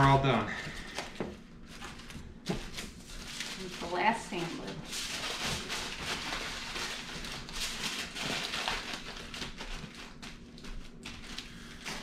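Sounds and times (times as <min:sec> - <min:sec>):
aluminum foil crinkling: 0:00.6 - 0:12.0.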